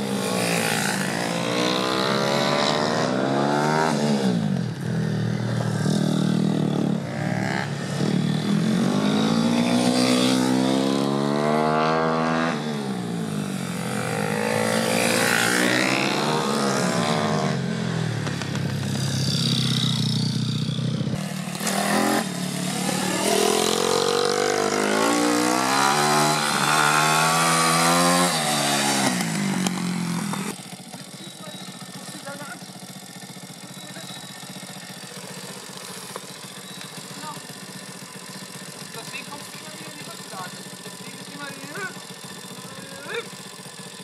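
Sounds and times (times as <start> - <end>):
small motorbike engines revving: 0.0 - 44.0.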